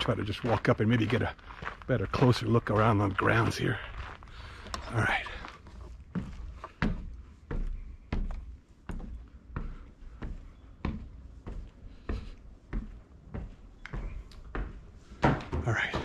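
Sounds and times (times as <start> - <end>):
footsteps on wooden steps: 0.0 - 16.0.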